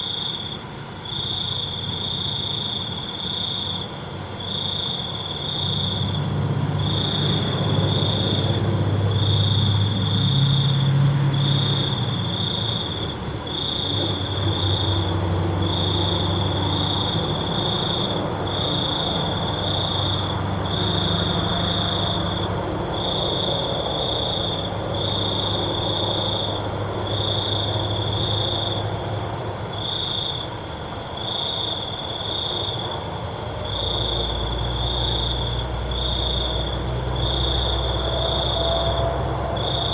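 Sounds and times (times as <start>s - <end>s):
crickets trilling: 0.0s - 39.9s
faint insects chirping: 0.0s - 39.9s.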